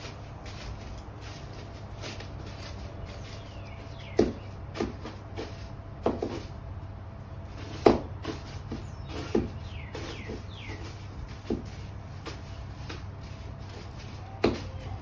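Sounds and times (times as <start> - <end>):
broom knocking against boards: 0.0 - 6.6, 7.5 - 15.0
broom sweeping: 0.0 - 6.6, 7.4 - 15.0.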